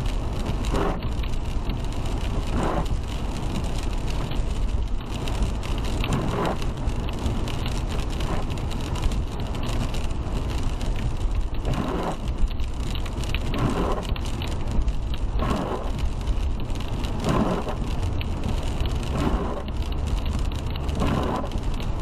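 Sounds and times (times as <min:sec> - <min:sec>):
rain ticking on car: 0:00.0 - 0:22.0
road and engine rumble: 0:00.0 - 0:22.0
windshield wiper swish: 0:00.1 - 0:22.0.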